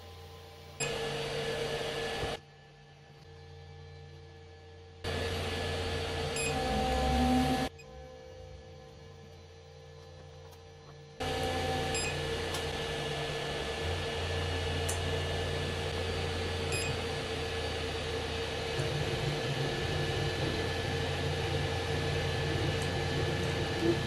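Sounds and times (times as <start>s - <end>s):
cooling fans whirring: 0.0s - 24.0s
printer motor hum: 0.7s - 3.3s, 5.0s - 7.8s, 9.0s - 24.0s.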